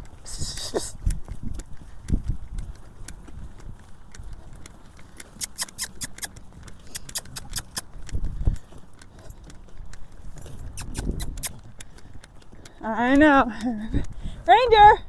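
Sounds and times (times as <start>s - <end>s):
hay cart metallic rattling: 0.0s - 15.0s
hooves thudding on soft ground: 0.0s - 15.0s.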